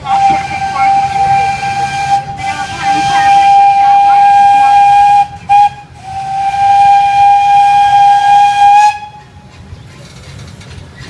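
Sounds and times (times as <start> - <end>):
steam whistle blasts: 0.0 - 9.3.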